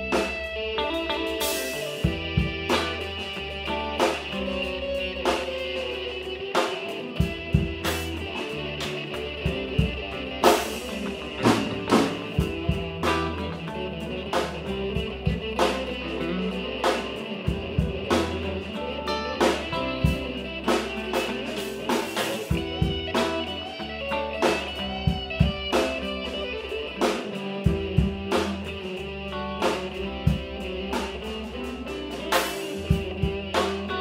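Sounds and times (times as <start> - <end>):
drum kit steady beat: 0.0 - 34.0
guitar: 0.0 - 34.0.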